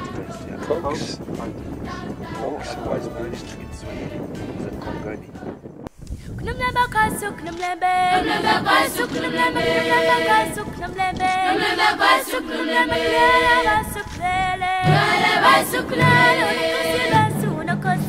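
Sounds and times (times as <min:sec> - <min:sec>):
choir singing in harmony: 0:00.0 - 0:05.8, 0:07.8 - 0:18.0.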